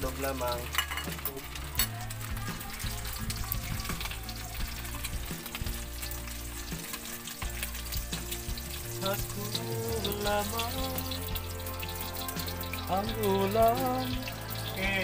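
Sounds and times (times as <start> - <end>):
hotdogs sizzling in oil: 0.0 - 15.0.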